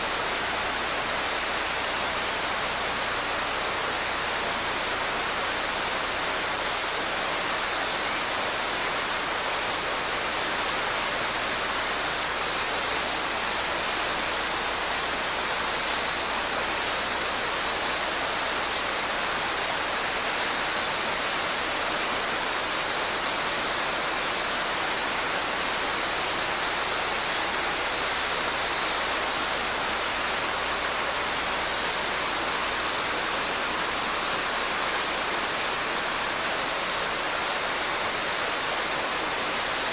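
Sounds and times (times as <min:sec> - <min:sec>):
faint cicada song: 0:00.0 - 0:39.9
stream rushing over rocks: 0:00.0 - 0:39.9.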